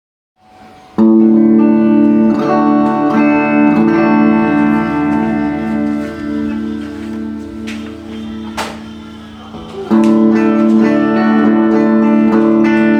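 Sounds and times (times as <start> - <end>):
electric guitar chord ringing: 0.4 - 12.9
guitar notes picked: 0.4 - 12.9.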